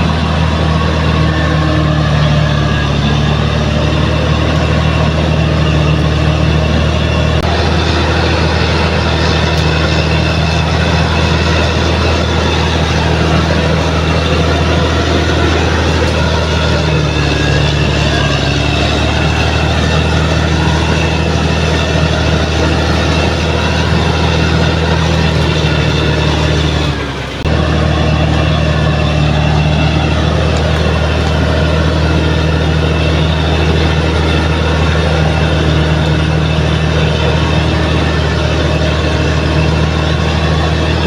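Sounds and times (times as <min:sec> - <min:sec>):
bulldozer diesel engine droning: 0:00.0 - 0:41.0.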